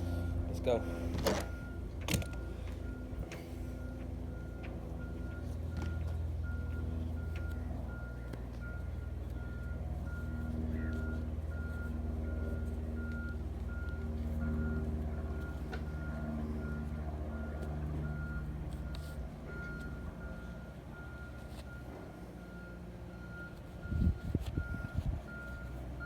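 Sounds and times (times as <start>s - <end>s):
reversing alarm beeping: 0.0s - 26.0s
vehicle engine running: 0.0s - 26.0s.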